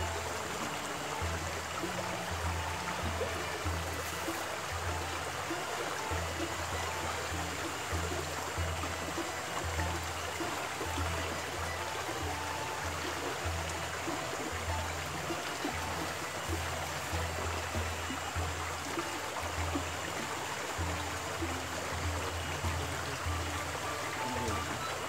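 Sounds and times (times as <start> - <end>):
music with pulsing bass: 0.0 - 25.0
stream running over stones: 0.0 - 25.0.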